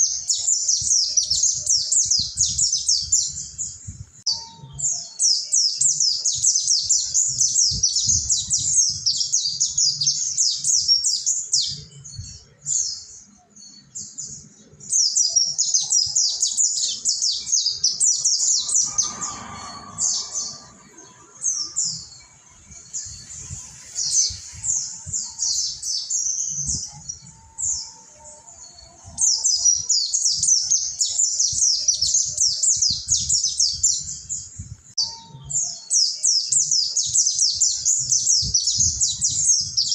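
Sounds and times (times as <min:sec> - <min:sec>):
birds twittering chorus: 0:00.0 - 0:39.9.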